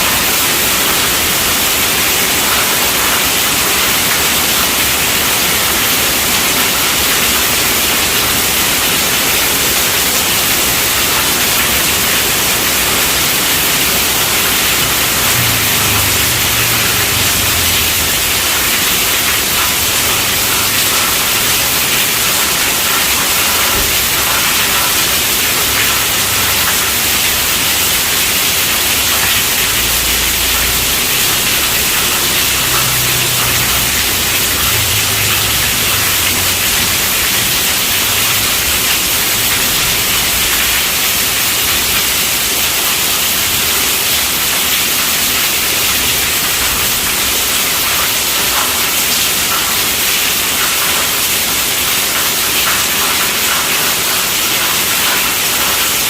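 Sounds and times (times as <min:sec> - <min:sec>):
heavy rain on a tent roof: 0:00.0 - 0:56.0.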